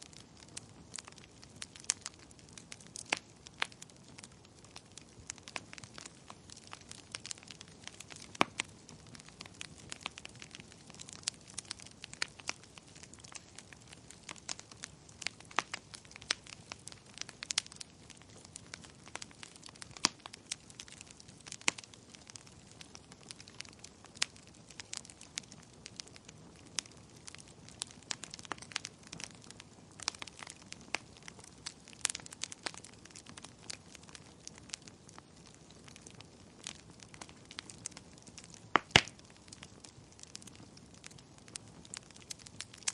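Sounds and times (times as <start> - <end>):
soft hiss of burning: 0.0 - 42.9
wood fire crackling and popping: 0.0 - 42.9.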